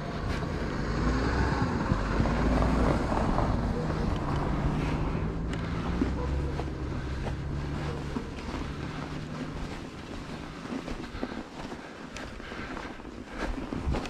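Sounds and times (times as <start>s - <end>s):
faint rumble: 0.0s - 14.0s
vehicle engine hum: 0.0s - 14.0s.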